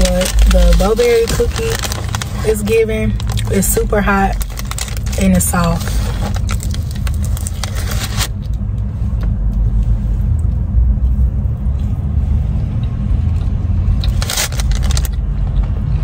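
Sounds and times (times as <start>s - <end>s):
car idling rumble: 0.0s - 15.8s.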